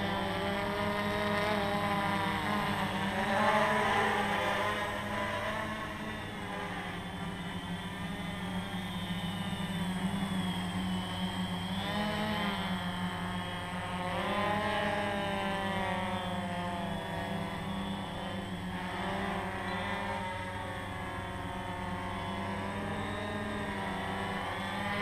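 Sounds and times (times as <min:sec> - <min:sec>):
drone motors buzzing: 0:00.0 - 0:25.0.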